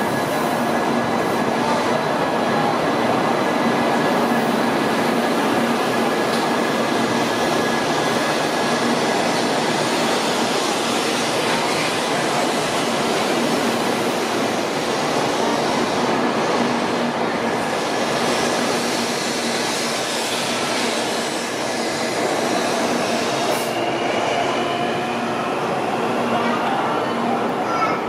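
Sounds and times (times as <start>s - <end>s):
train rolling rumble and hiss: 0.0s - 28.0s.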